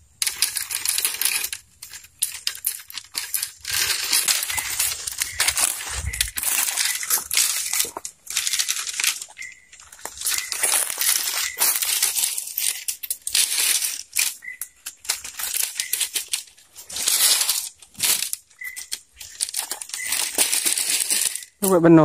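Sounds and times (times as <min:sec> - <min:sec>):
hands crackling dry leaves: 0:00.2 - 0:22.0
footsteps crunching dry leaves: 0:03.4 - 0:21.9.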